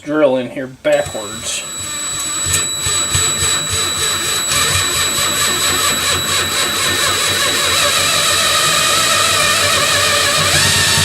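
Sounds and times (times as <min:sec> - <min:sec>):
electric drill whining: 0:00.9 - 0:11.0.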